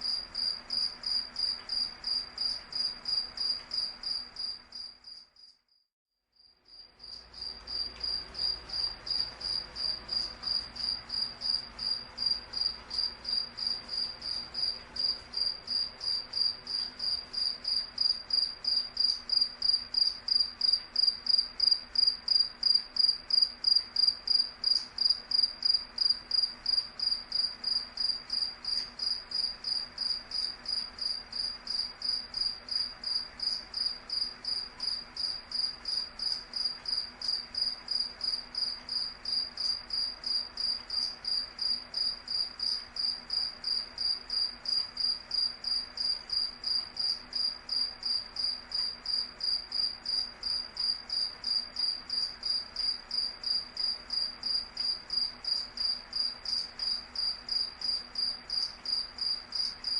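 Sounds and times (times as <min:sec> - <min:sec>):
cricket chirping: 0:00.0 - 0:05.8, 0:06.4 - 0:59.9.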